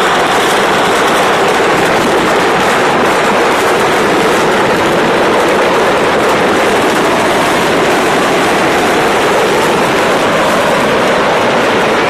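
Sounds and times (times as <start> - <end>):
loud rushing noise: 0.0 - 12.0.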